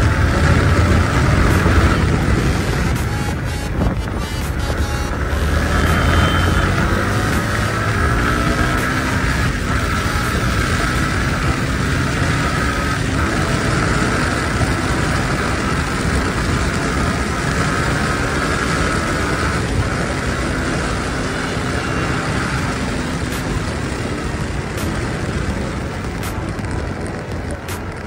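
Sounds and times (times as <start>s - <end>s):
motorcycle engine at high speed: 0.0s - 28.0s
wind rush on microphone: 0.0s - 28.0s.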